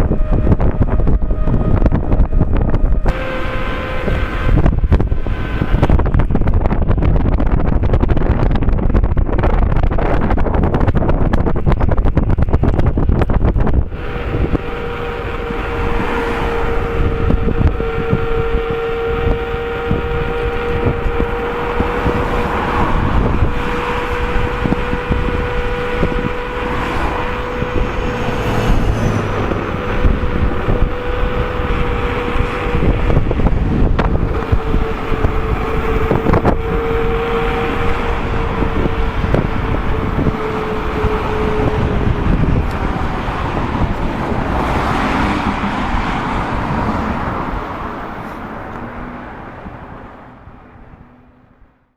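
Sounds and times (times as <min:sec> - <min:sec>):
unicycle tire humming on road: 0:00.0 - 0:51.9
wind rumbling on microphone: 0:00.0 - 0:51.9.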